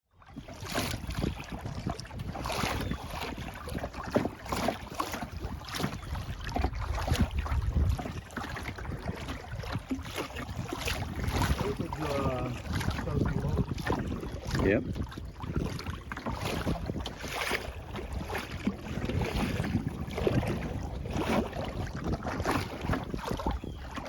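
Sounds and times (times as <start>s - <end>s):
wind rumble on microphone: 0.1s - 24.0s
paddle splashing in water: 0.2s - 24.0s.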